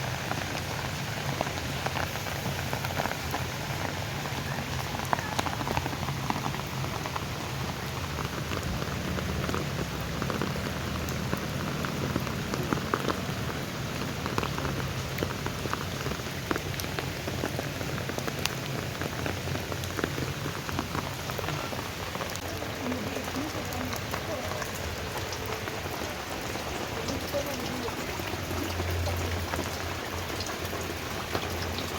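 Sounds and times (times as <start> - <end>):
raindrops ticking close by: 0.0 - 31.9
steady rain hiss: 0.0 - 31.9.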